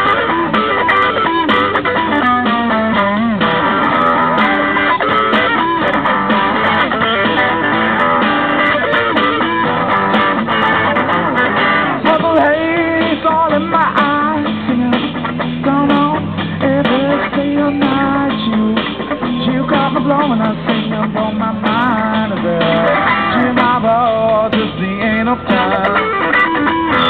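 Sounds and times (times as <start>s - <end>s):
guitar plucked and strummed: 0.0s - 27.0s.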